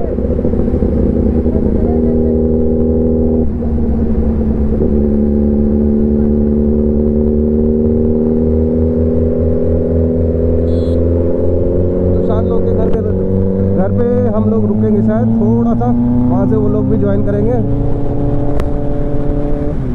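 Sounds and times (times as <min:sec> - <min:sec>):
motorcycle engine running: 0:00.0 - 0:19.9
wind and road rumble: 0:00.0 - 0:19.9.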